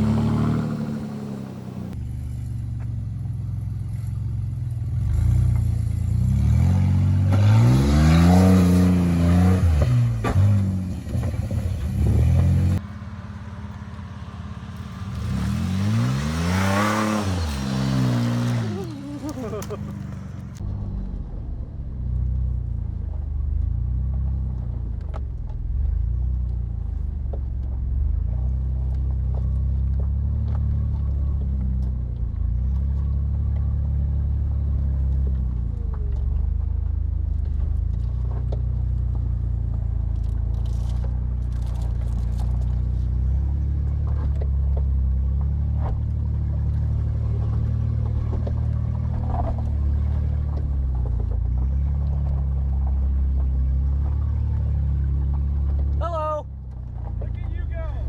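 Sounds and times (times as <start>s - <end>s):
car engine running at low revs: 0.0s - 58.0s.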